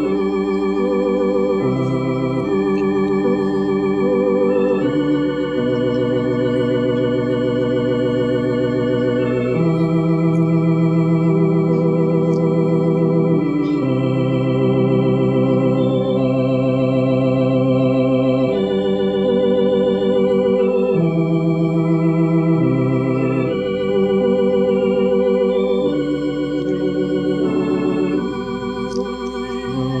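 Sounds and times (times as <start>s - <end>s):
organ playing a hymn: 0.0s - 30.0s.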